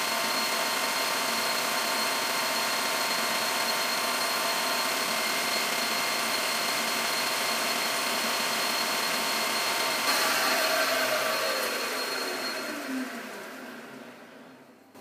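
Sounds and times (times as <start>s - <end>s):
metal lathe whining: 0.2s - 14.7s
lathe spindle winding down: 1.0s - 14.8s.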